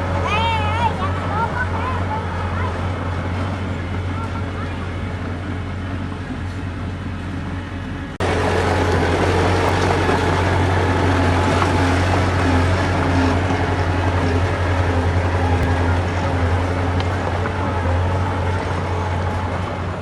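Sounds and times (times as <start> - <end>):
heavy diesel engine droning: 0.0 - 20.0.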